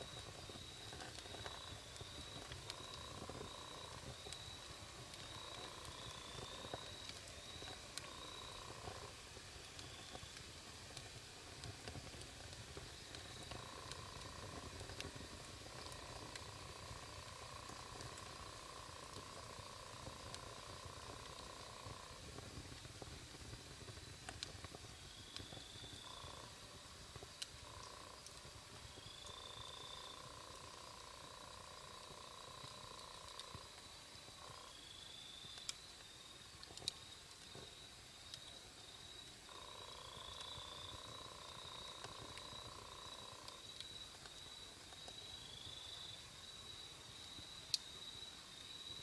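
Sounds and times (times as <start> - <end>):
low rumble of flames: 0.0 - 47.9
faint campfire crackling: 0.0 - 49.0
insects trilling and chirping: 0.0 - 49.0.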